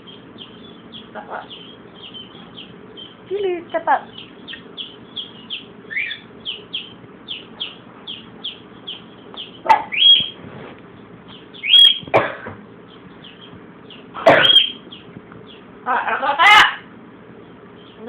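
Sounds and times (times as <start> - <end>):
macaw harsh calls: 0.0 - 10.4, 11.4 - 12.1, 13.2 - 16.9.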